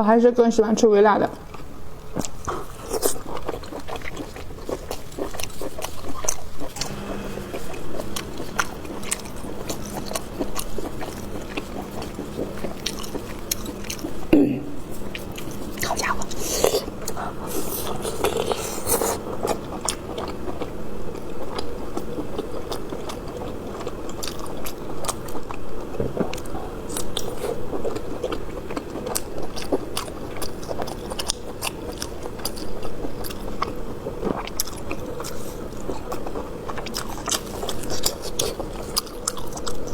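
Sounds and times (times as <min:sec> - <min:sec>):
chewing and biting: 0:01.5 - 0:39.9.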